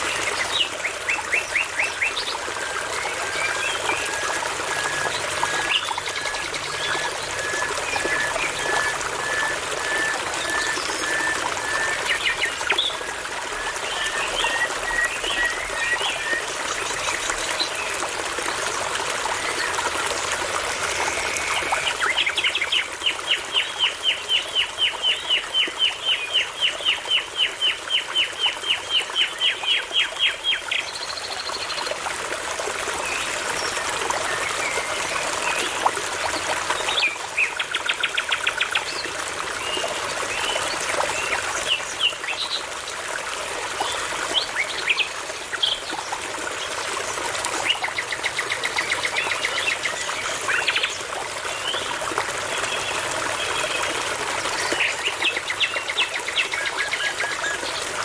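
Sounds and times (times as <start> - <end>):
babbling brook: 0.0 - 58.0.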